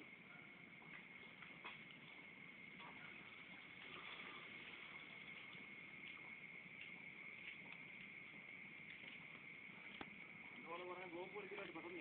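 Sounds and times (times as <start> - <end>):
faint high-pitched whine: 0.0 - 12.0
light hiss: 0.0 - 12.0.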